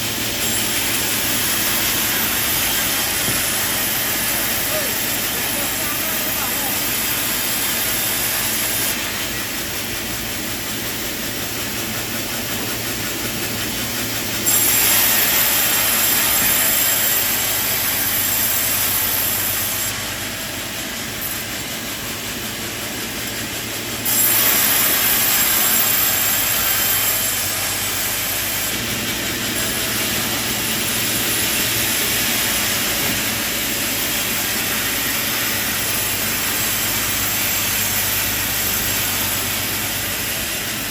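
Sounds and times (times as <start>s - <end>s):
machinery hiss: 0.0s - 40.9s
sawmill machinery running: 0.0s - 40.9s.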